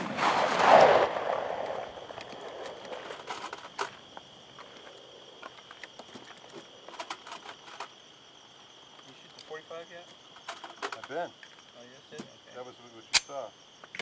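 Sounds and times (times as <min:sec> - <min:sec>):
high-pitched insect chorus: 0:00.1 - 0:14.0.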